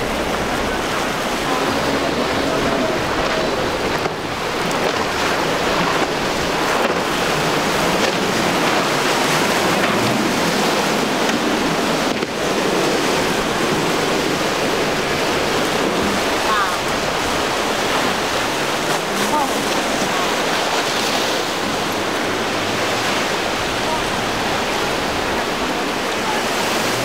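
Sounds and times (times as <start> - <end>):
surf and churning wake water: 0.0 - 27.0
wind buffeting microphone: 0.0 - 27.0.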